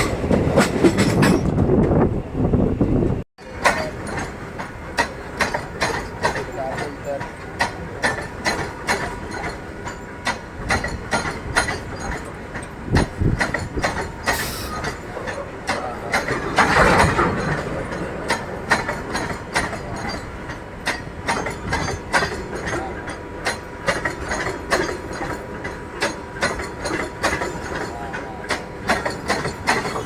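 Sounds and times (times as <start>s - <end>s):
train wheels clacking over rail joints: 0.0s - 2.0s, 3.4s - 30.0s
train rumble: 0.0s - 30.0s
train rushing: 0.0s - 30.0s.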